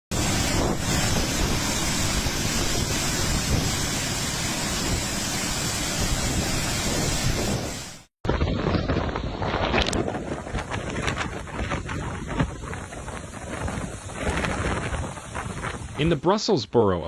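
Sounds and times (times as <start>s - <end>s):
storm wind buffeting microphone: 0.1s - 16.2s.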